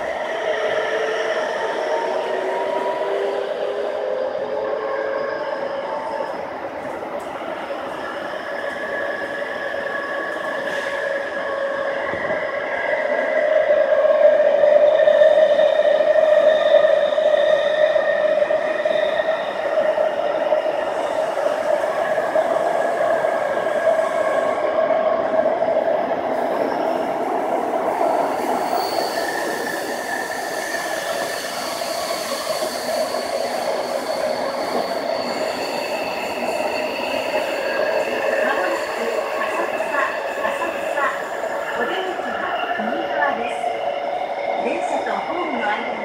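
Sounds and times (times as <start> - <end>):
electric train whining tones: 0.0 - 46.0
train wheels rumbling on rail: 0.0 - 46.0.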